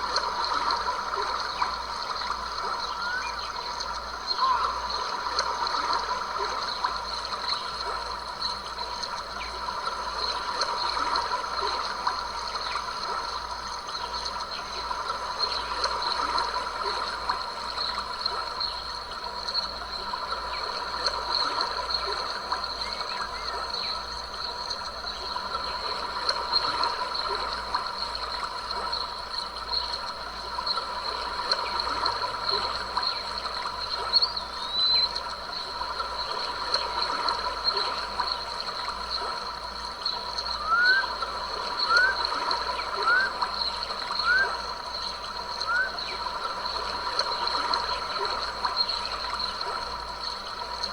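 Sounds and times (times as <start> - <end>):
stream trickling over rocks: 0.0 - 50.9.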